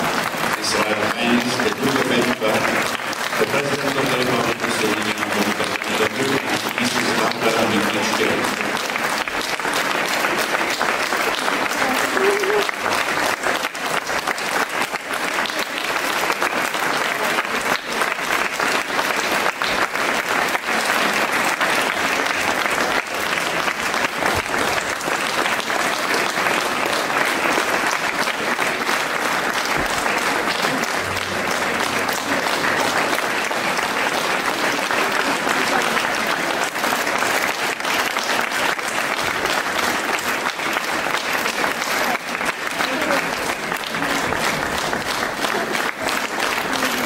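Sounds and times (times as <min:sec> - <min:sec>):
large crowd applauding: 0:00.0 - 0:47.0.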